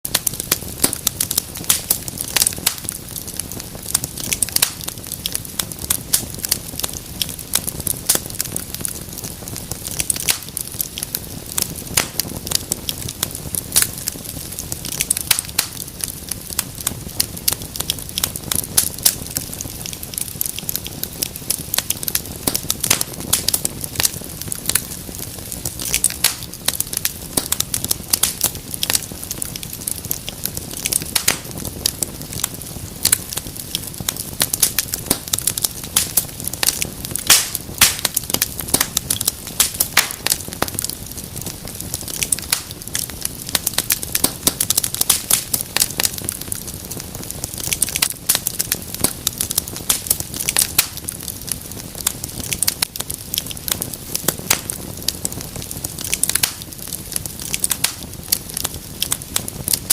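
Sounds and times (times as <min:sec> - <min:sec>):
wood fire crackling and popping: 0:00.0 - 0:59.9
low rumble of flames: 0:00.1 - 0:59.9.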